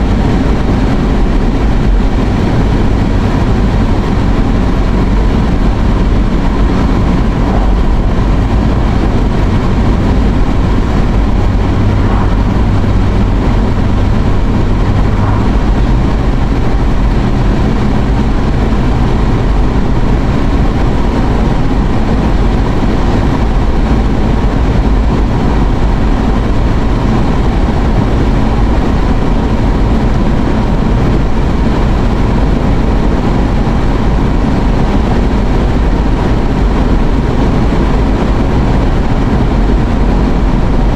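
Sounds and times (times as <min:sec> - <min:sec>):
road and engine noise in car cabin: 0:00.0 - 0:40.9.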